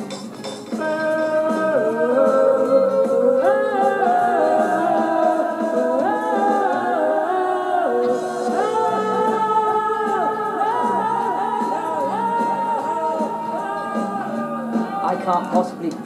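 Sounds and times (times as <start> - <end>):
man singing wordless vocal lines: 0.8 - 16.0.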